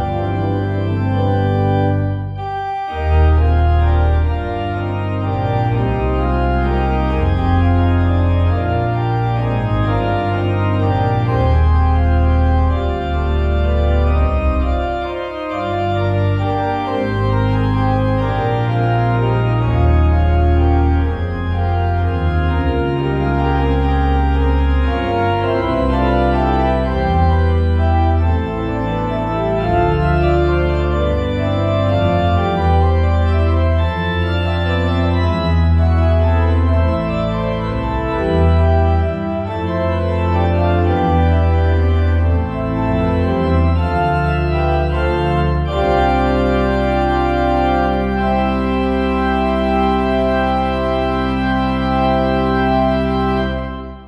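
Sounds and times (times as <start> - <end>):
organ music with sustained chords: 0.0 - 54.0.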